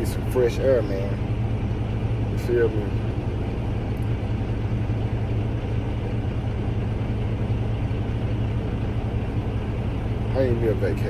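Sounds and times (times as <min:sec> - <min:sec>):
road noise: 0:00.0 - 0:11.0
truck engine running: 0:00.0 - 0:11.0.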